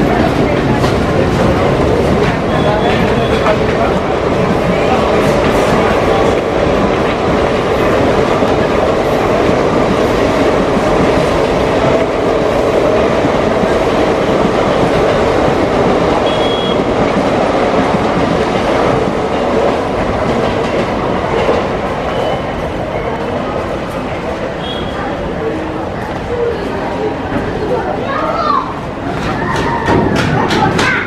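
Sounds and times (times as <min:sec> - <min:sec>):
trains running past: 0:00.0 - 0:31.0.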